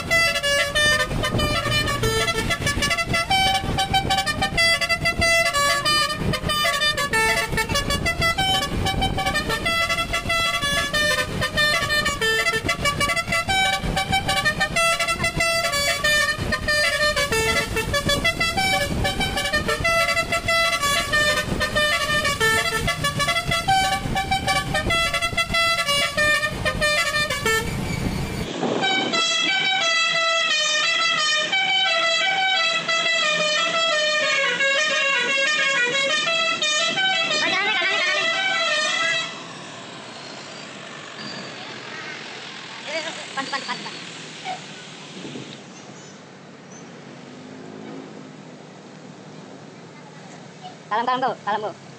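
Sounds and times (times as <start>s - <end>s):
musical bus air horn: 0.0s - 41.6s.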